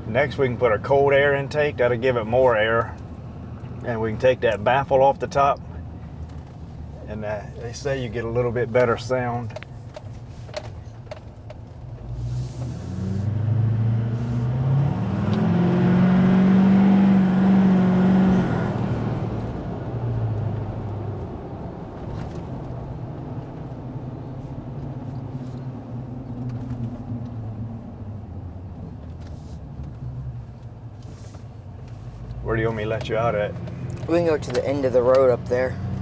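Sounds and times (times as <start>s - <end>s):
diesel truck engine accelerating: 0.0s - 36.0s.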